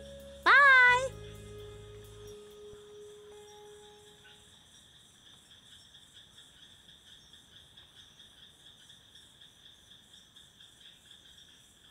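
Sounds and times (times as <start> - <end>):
insect chirring: 0.0 - 11.9.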